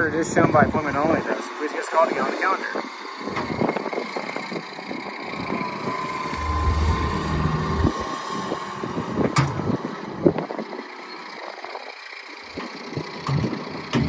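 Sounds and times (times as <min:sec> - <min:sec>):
faint steady whine: 0:00.0 - 0:13.0
excavator diesel engine running: 0:00.0 - 0:14.0.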